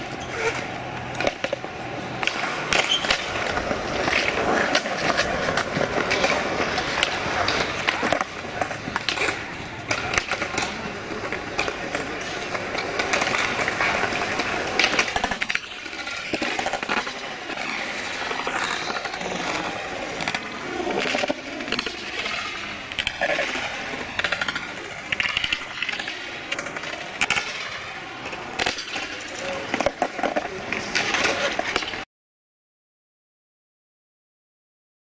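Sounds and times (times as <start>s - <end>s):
skateboard wheels rolling on concrete: 0.0s - 32.1s
skateboards clacking: 0.0s - 32.1s
people talking: 1.3s - 32.0s.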